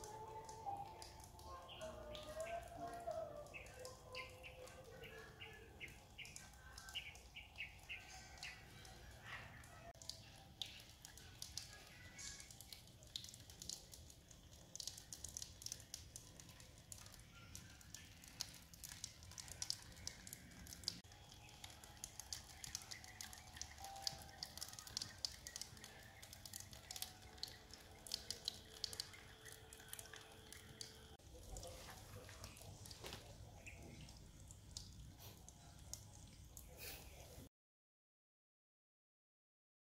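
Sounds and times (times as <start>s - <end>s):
fountain water trickling: 0.0s - 37.5s
patter of small splashes: 0.0s - 37.5s.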